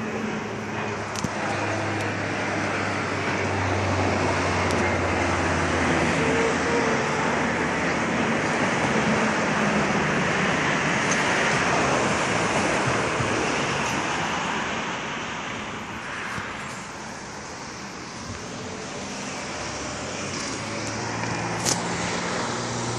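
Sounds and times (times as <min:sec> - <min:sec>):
airliner flying overhead: 0:00.0 - 0:22.9
road traffic: 0:00.0 - 0:22.9.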